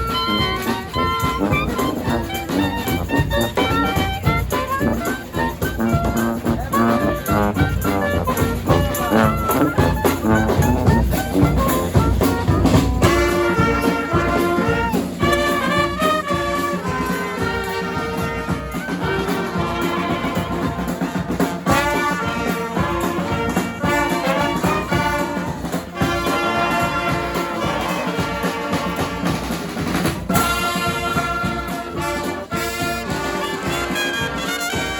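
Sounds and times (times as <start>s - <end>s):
drums: 0.0s - 34.9s
trumpets and trombones: 0.0s - 34.9s.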